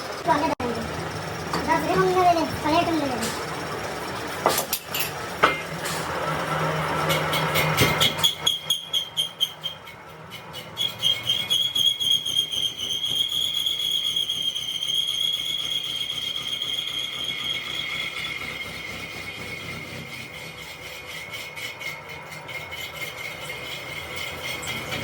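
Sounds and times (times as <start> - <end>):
high metallic ringing whine: 0.0 - 25.0.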